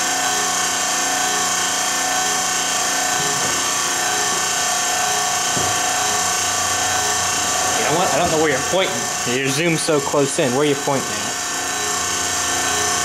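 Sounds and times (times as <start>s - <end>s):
machine hissing with steady tones: 0.0s - 13.0s.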